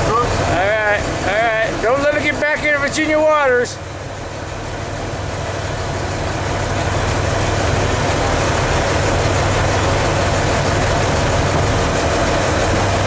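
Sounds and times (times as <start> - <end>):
boat engine low hum: 0.0 - 13.0.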